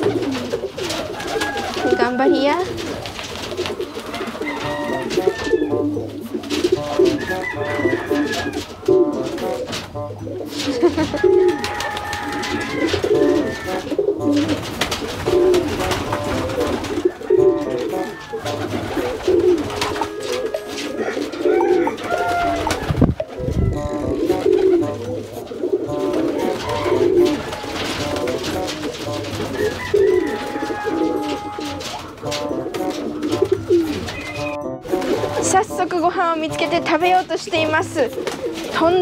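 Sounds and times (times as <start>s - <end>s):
pigeons cooing: 0.0s - 39.0s.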